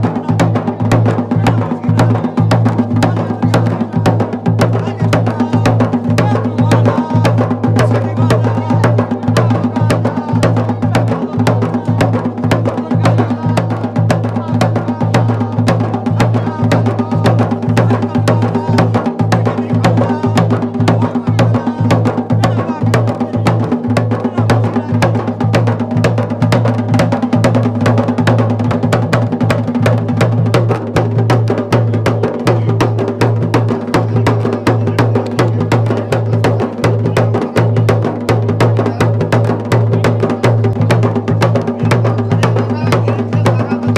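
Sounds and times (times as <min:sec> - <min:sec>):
drums played fast: 0:00.0 - 0:43.9.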